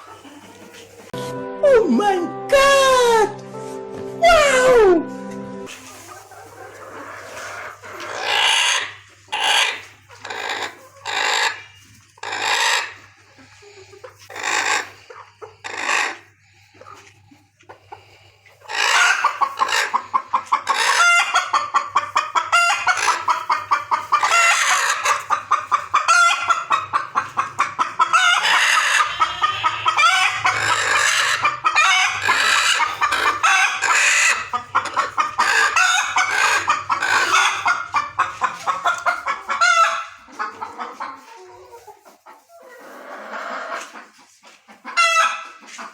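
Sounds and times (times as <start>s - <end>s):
chickens clucking and calling: 0.0s - 1.5s, 3.4s - 45.9s.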